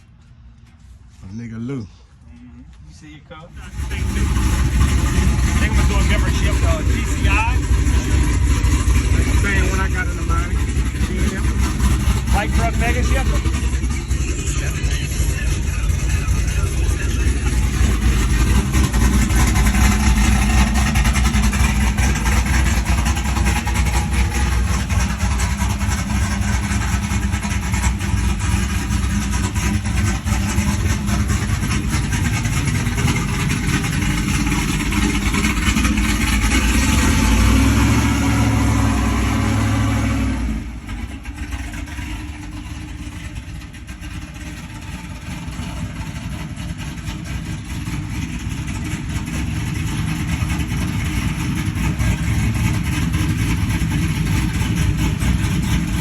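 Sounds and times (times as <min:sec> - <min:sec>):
loud truck engine running: 0:03.0 - 0:56.0.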